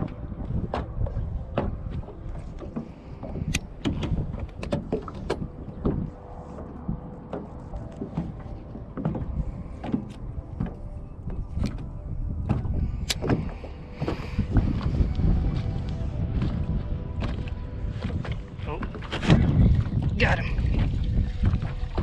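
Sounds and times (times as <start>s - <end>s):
water slapping against boat hull: 0.0s - 22.0s
wind on microphone: 0.0s - 22.0s.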